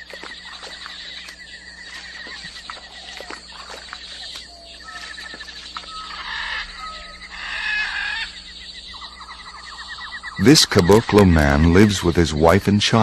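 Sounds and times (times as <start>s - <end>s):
loud animal calls: 0.0s - 11.8s
insects chirring: 0.0s - 13.0s.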